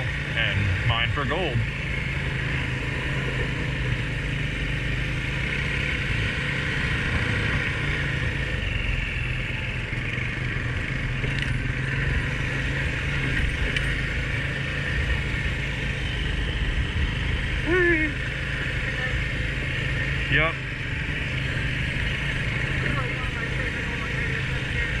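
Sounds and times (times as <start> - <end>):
atv engine droning: 0.0 - 25.0.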